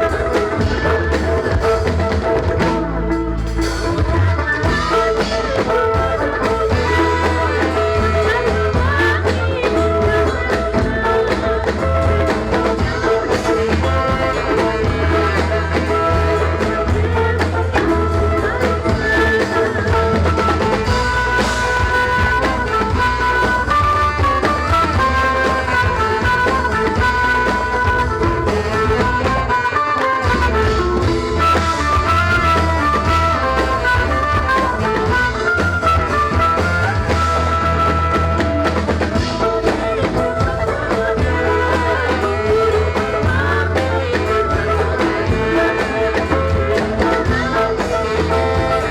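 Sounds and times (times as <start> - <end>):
folk music ensemble: 0.0 - 48.9
steady drumming: 0.0 - 48.9.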